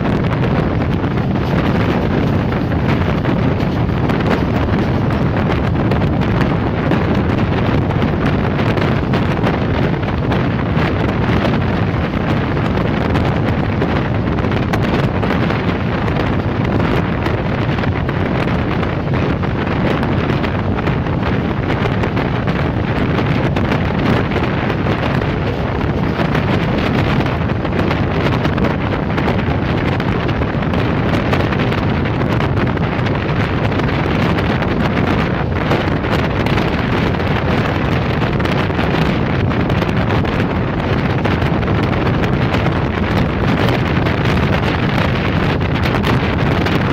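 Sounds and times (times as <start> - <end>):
train running at high speed: 0.0 - 46.9
wind rushing over microphone: 0.0 - 46.9.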